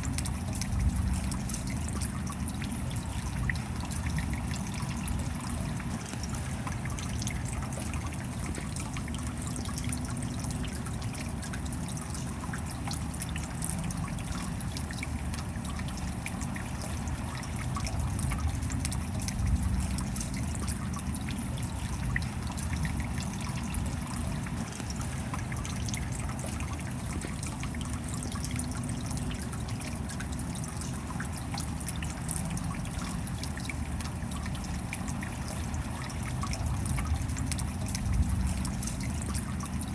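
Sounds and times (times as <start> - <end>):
rain drops tapping: 0.0 - 39.9
water trickling: 0.0 - 39.9.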